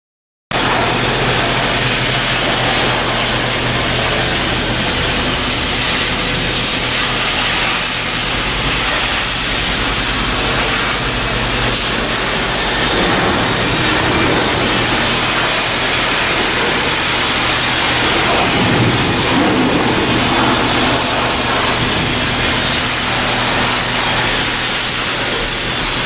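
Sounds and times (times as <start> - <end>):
low machinery hum: 0.5 - 26.0
loud continuous hiss: 0.6 - 26.0.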